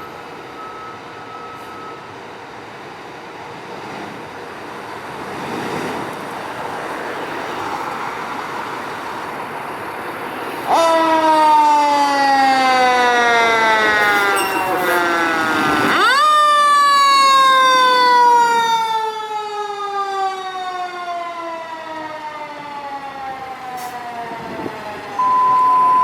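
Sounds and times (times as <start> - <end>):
fire engine siren: 0.0 - 2.4, 6.3 - 26.0
fire engine vehicle noise: 0.0 - 26.0.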